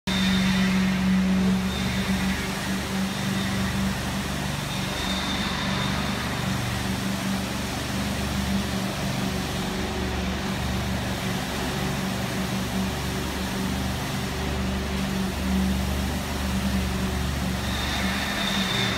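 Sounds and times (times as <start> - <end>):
noisy background: 0.1 - 18.9
pump engine running: 0.1 - 18.9.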